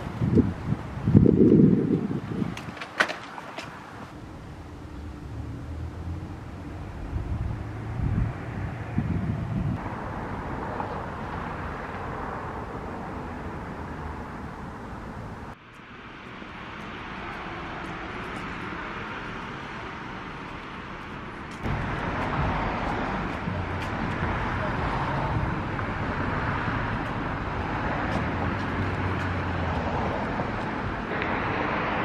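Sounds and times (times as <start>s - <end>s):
vehicle and road noise: 0.0s - 32.0s.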